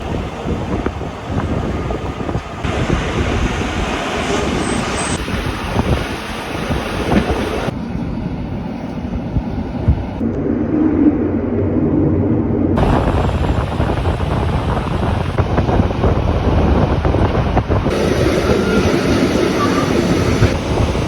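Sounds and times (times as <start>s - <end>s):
train rumbling along track: 0.0s - 10.4s, 12.8s - 21.0s
wind on microphone: 0.0s - 21.0s.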